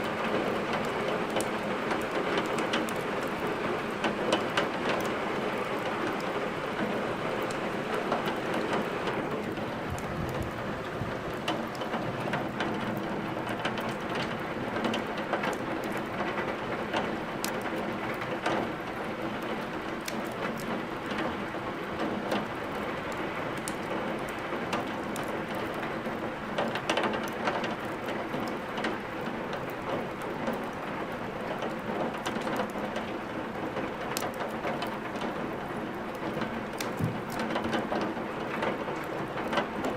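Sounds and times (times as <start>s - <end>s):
heavy rain: 0.0s - 39.9s
wood fire crackling: 0.1s - 39.9s.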